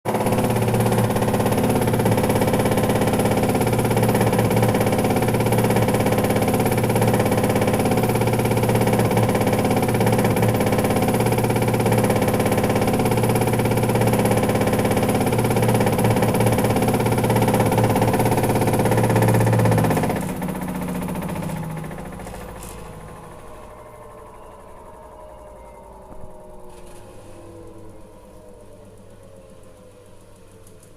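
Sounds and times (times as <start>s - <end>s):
washing machine spinning: 0.1s - 30.9s.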